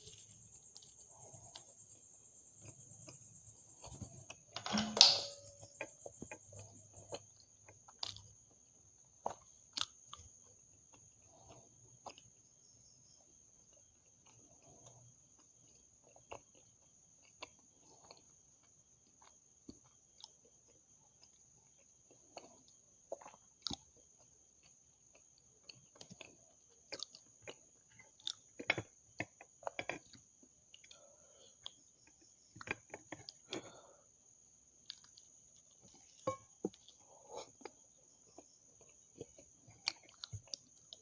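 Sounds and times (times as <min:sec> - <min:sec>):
person chewing: 0:05.6 - 0:41.0.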